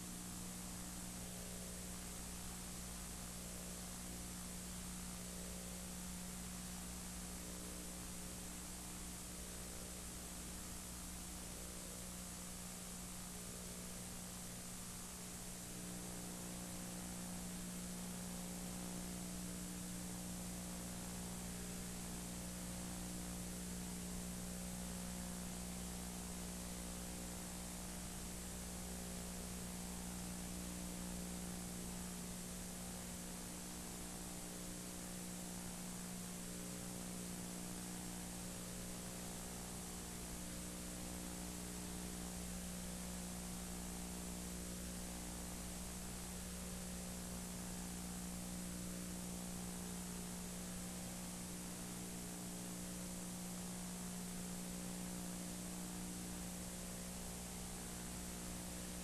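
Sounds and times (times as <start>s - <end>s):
low electrical hum and buzz: 0.0s - 59.0s.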